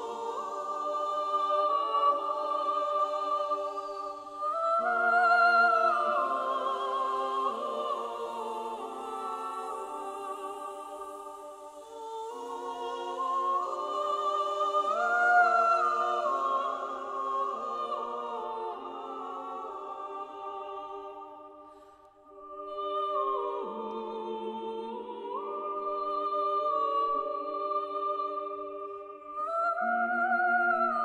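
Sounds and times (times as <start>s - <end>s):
women's choir singing a cappella: 0.0s - 31.0s.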